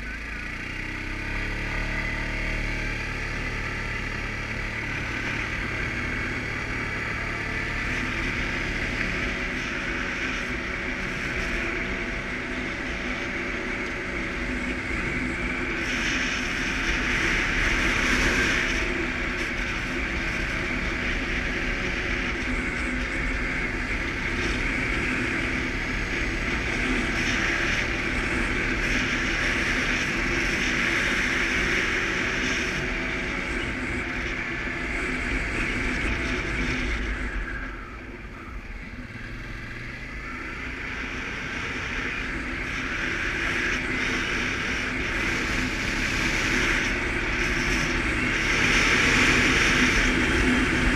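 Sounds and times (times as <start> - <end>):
atv engine running: 0.0 - 50.9
wind and road noise: 0.0 - 50.9.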